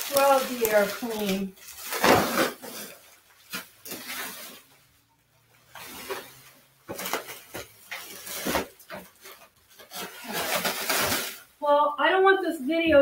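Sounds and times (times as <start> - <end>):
plastic packaging crinkling: 0.0 - 5.0, 5.6 - 11.6.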